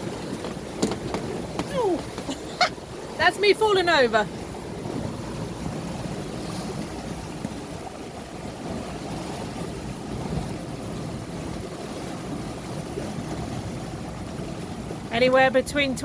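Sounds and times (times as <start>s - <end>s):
water rushing along a hull: 0.0s - 16.0s
wind buffeting microphone: 0.0s - 16.0s.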